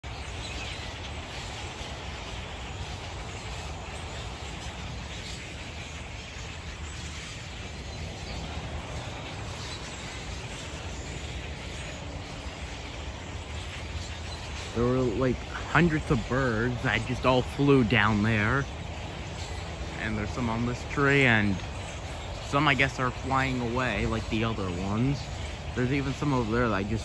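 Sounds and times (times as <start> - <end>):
flock of birds chattering: 0.0 - 27.0.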